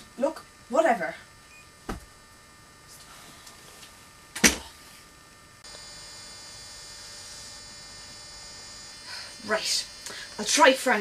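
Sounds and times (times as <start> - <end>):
high-pitched electrical hum: 0.0 - 11.0.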